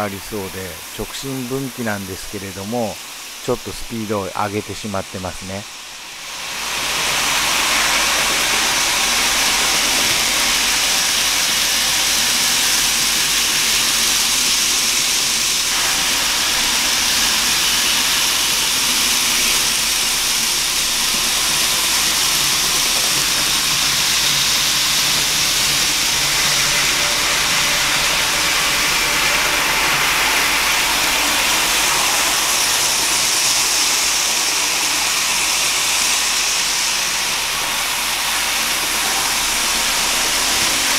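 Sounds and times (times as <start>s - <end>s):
model train wheels rolling on rails: 6.1s - 40.9s.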